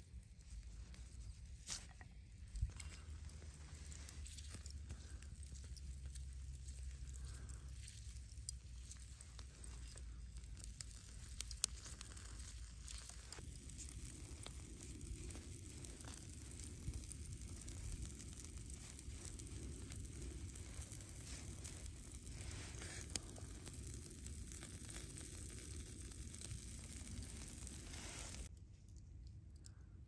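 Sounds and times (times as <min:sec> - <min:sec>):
steady low rumble: 0:00.4 - 0:30.0.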